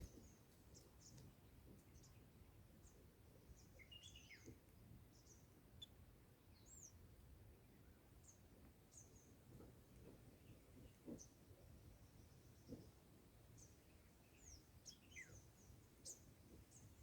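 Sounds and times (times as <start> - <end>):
small birds chirping: 0.0 - 5.9, 6.5 - 7.0, 7.6 - 17.0.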